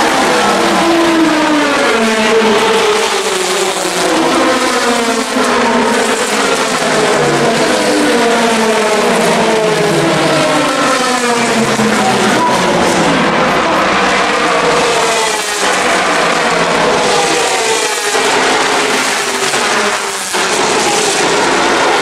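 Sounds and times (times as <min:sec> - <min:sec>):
race car engines at speed: 0:00.0 - 0:22.0.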